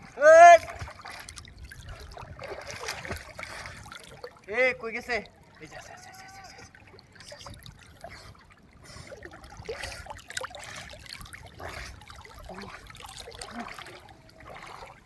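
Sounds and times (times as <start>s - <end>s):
river water trickling and splashing: 0.0s - 15.0s.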